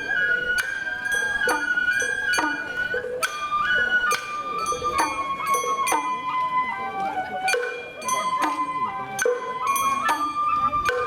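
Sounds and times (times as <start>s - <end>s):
sharp percussion strikes: 0.0s - 6.3s, 7.3s - 11.0s
bamboo flute melody: 0.0s - 11.0s.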